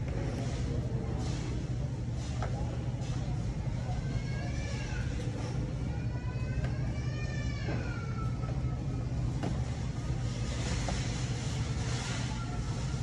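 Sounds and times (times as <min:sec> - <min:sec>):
low hum of store: 0:00.0 - 0:13.0.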